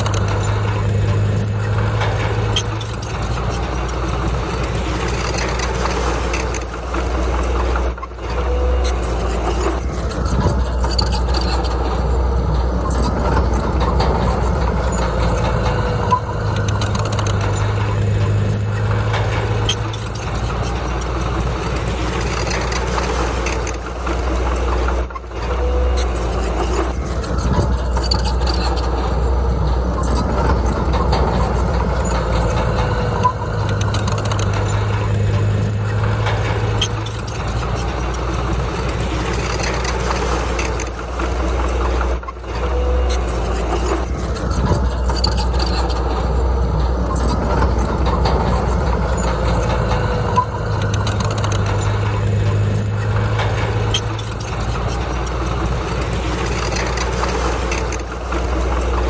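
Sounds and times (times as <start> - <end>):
diesel machinery running under load: 0.0 - 59.0.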